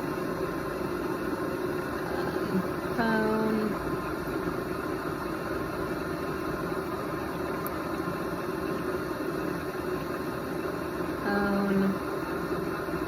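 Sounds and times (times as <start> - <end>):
electric pottery wheel running: 0.0 - 13.0.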